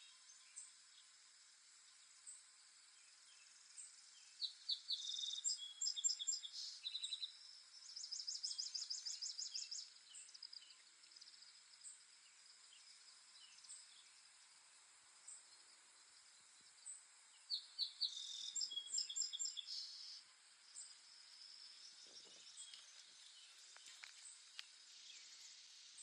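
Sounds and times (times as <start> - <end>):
birds singing trills and chirps: 0.0 - 1.1, 1.9 - 14.4, 15.2 - 26.0
faint hiss: 0.0 - 26.0.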